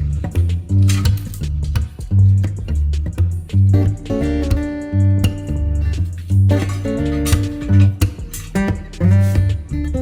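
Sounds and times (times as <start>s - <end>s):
guitar playing: 0.0s - 10.0s
steady bass beat: 0.0s - 10.0s.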